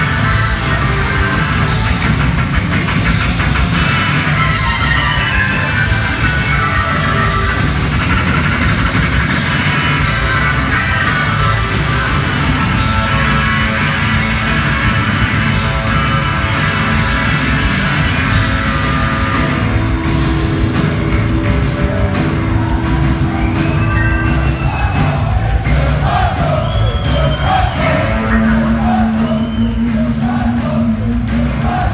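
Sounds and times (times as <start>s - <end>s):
electric guitar: 0.0s - 26.0s
bass guitar: 0.0s - 31.9s
drum kit: 0.0s - 31.9s.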